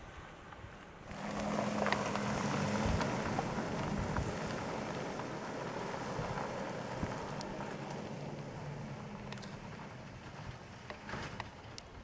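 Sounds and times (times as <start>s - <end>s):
tyre and road noise: 0.1s - 12.0s
truck engine hum: 1.0s - 12.0s.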